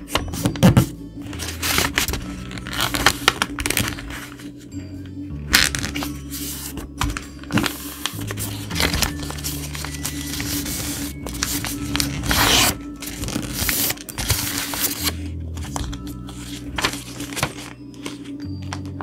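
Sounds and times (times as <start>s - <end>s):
paper rustling and creasing: 0.0s - 4.6s, 5.5s - 19.0s
background music with bass line: 0.0s - 19.0s.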